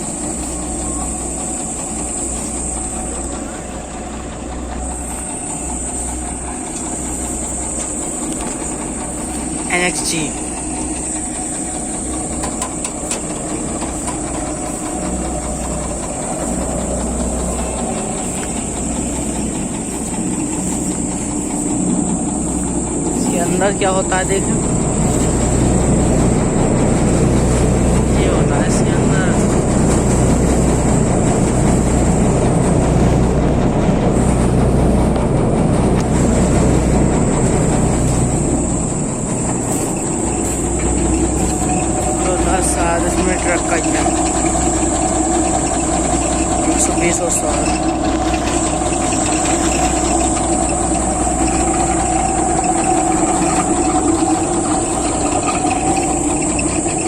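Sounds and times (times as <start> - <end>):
combine harvester engine hum: 0.0 - 57.0
constant high hiss: 0.0 - 57.0
dense mechanical rattle: 0.0 - 57.0
thin high whine: 0.0 - 57.0.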